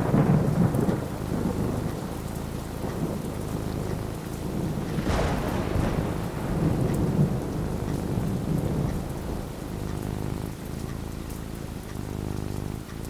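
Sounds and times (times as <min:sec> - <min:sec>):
steady rain: 0:00.0 - 0:13.0
thunder rumbling: 0:00.0 - 0:13.0.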